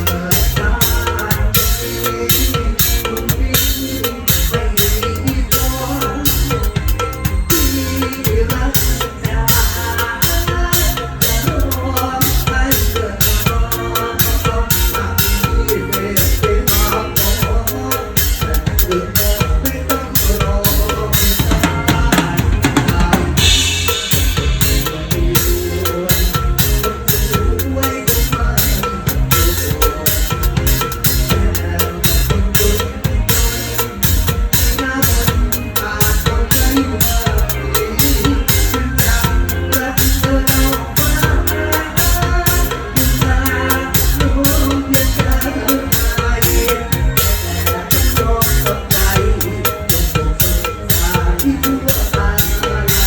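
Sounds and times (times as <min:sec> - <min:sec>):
band with bass and keyboard: 0:00.0 - 0:53.0
drum kit playing steady beat: 0:00.0 - 0:53.0.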